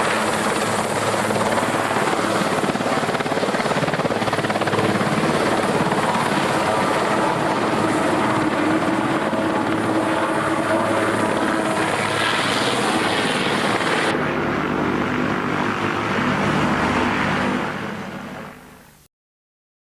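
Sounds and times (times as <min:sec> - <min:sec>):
helicopter rotor drone: 0:00.0 - 0:18.8.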